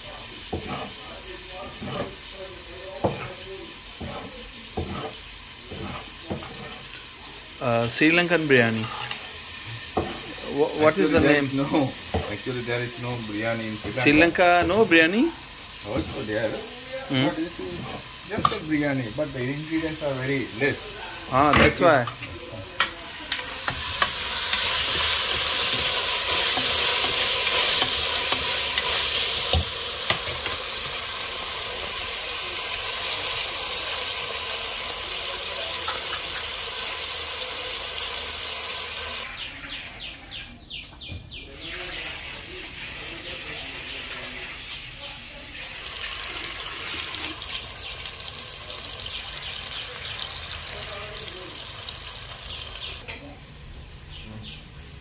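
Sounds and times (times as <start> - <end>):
vegetables sizzling in hot oil: 0.0 - 39.3, 41.5 - 54.1.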